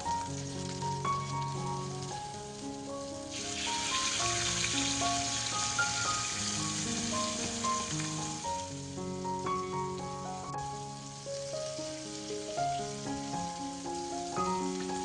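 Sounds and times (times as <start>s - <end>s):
chicken sizzling in a frying pan: 0.0s - 15.0s
light background music: 0.0s - 15.0s.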